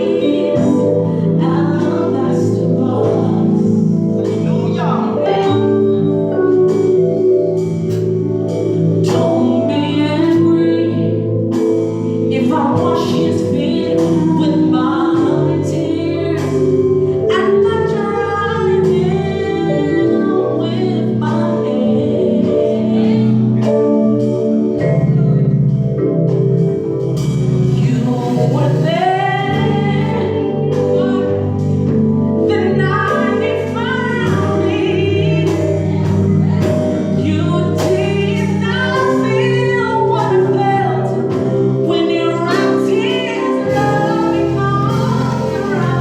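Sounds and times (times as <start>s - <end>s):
organ chords: 0.0s - 46.0s.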